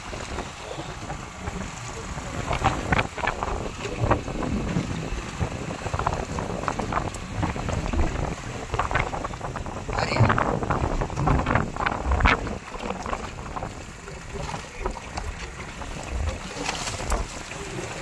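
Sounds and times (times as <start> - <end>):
water splashing against boat hull: 0.0 - 18.0
wind buffeting microphone: 0.0 - 18.0.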